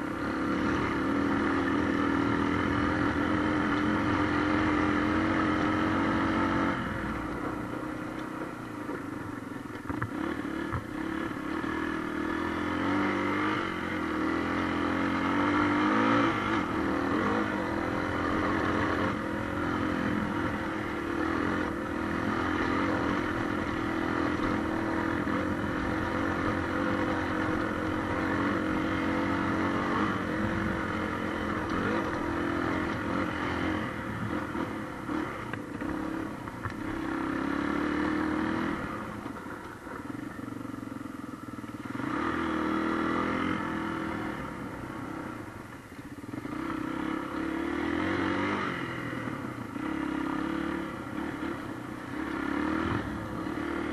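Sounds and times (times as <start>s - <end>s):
motorcycle engine under throttle: 0.0s - 53.9s.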